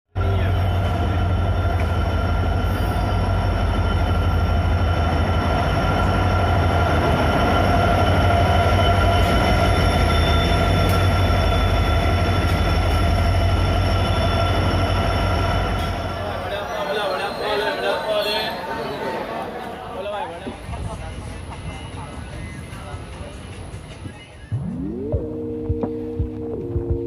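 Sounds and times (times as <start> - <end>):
passenger train rumbling on rails: 0.1 - 24.5.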